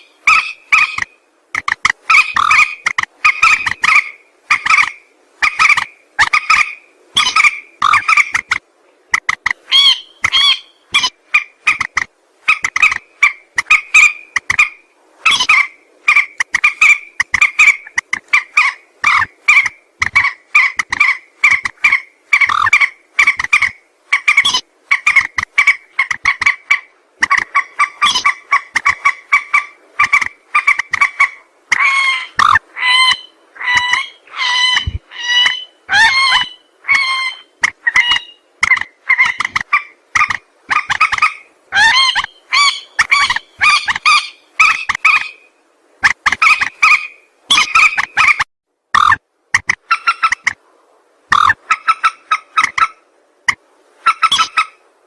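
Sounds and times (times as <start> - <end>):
rail bird calling: 0.0 - 50.6, 51.3 - 54.8.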